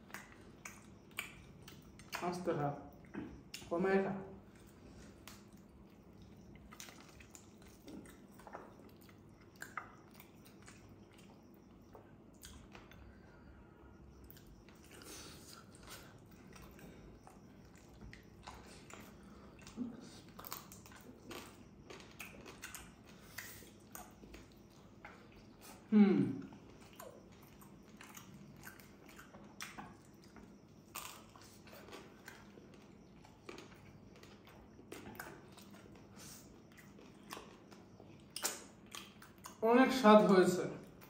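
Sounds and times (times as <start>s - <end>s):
people chewing and lip smacking: 0.0s - 3.7s, 4.3s - 39.6s, 40.8s - 41.0s.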